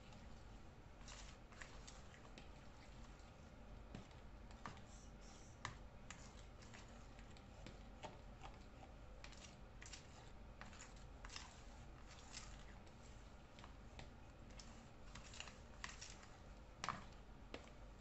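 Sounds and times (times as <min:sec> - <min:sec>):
low background hum: 0:00.0 - 0:18.0
spoon stirring batter in bowl: 0:00.0 - 0:18.0.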